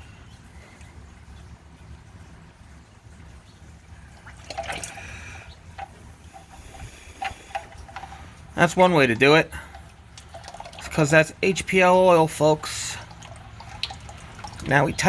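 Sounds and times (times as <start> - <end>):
oil trickling and dripping: 0.0 - 15.0.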